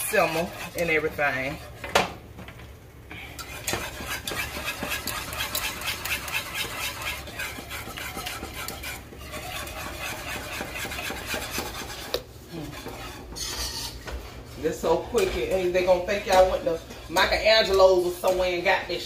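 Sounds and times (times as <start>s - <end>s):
whisk scraping a saucepan: 0.0s - 1.9s, 3.2s - 18.7s.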